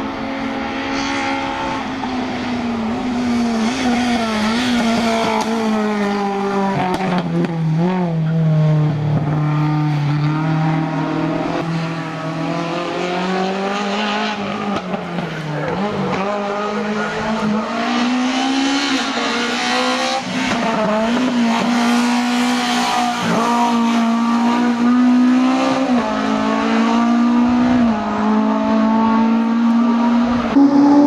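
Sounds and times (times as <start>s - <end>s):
race car engine at high revs: 0.0s - 31.0s.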